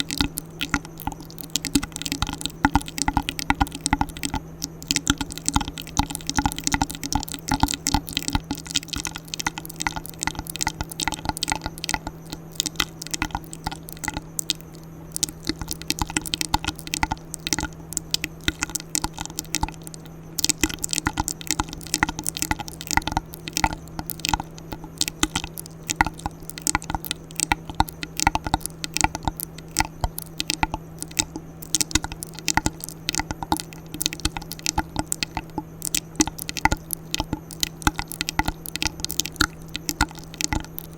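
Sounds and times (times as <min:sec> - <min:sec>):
low hum: 0:00.0 - 0:40.9
wet mouth clicks and pops: 0:00.0 - 0:40.9.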